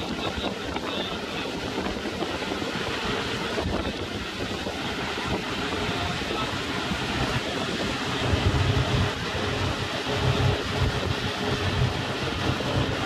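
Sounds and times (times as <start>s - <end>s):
speedboat engine: 0.0s - 13.0s
water rushing: 0.0s - 13.0s
wind buffeting microphone: 0.0s - 13.0s.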